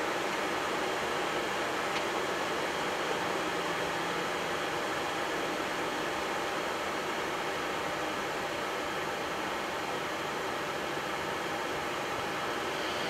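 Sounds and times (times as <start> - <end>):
air-conditioning airflow hiss: 0.0 - 13.0
jet engines idling: 0.0 - 13.0.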